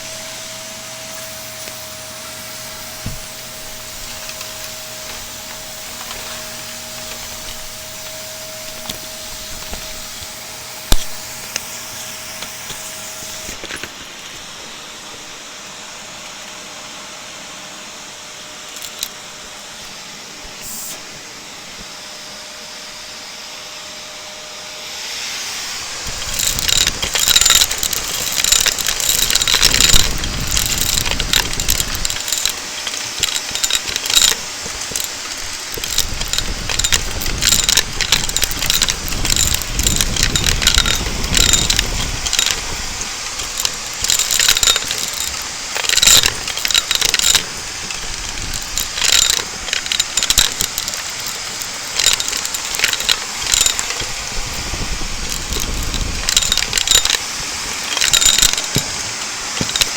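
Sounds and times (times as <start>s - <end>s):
crackling rattle of sucked debris: 0.0s - 14.5s, 25.1s - 59.9s
debris clicking up hose: 0.0s - 15.2s, 18.7s - 19.3s, 25.2s - 59.9s
vacuum cleaner running: 0.0s - 59.9s.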